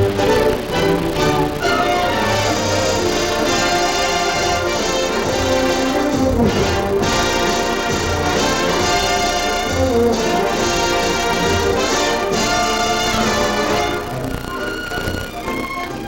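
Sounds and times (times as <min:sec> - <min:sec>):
orchestral music with brass: 0:00.0 - 0:16.0.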